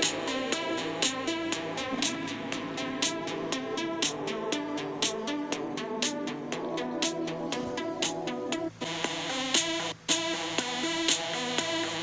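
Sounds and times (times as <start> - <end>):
drum machine beat: 0.0 - 12.0
electronic dance music: 0.0 - 12.0
synthesizer notes: 0.0 - 12.0.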